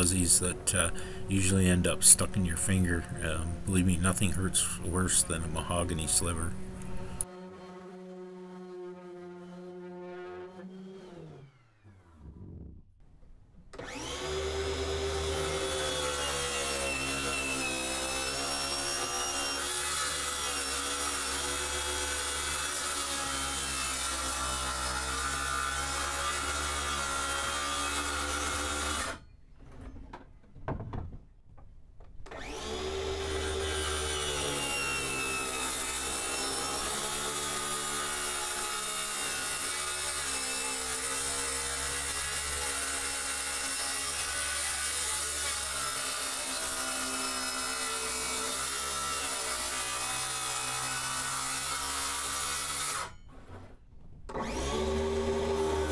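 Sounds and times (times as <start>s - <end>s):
circular saw cutting plywood: 0.0s - 12.8s, 13.8s - 29.2s, 32.2s - 55.9s.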